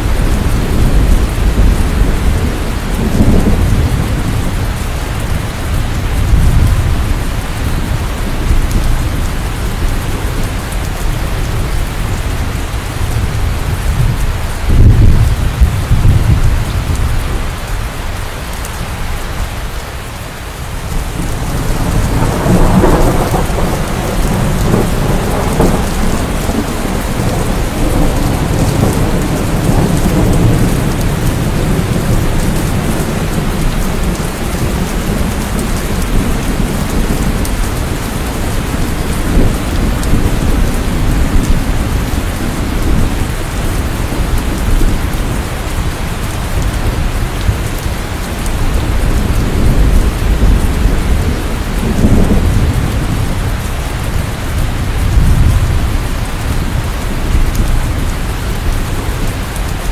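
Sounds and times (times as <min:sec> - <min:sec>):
rolling thunder rumble: 0:00.0 - 0:59.9
steady rain: 0:00.0 - 0:59.9.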